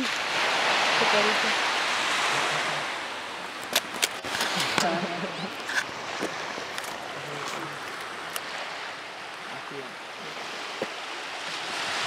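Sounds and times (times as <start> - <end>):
surf washing on sandy beach: 0.0 - 12.0.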